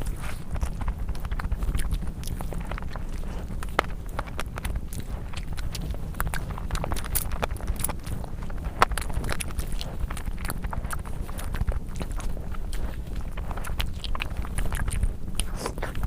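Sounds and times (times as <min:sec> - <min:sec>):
close chewing and mouth smacks: 0:00.0 - 0:16.0
steady low rumble: 0:00.0 - 0:16.0.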